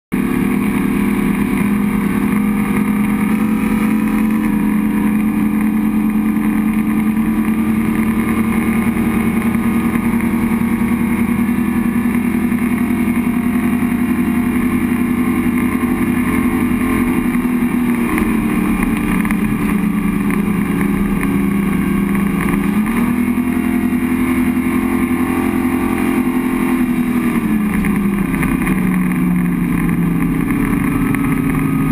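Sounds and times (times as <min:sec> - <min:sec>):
speedboat engine at high speed: 0:00.1 - 0:31.9.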